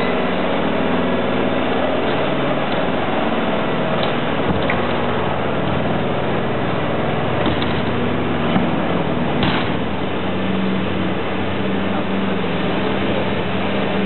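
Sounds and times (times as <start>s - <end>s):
ice resurfacing machine engine drone: 0.0s - 14.0s.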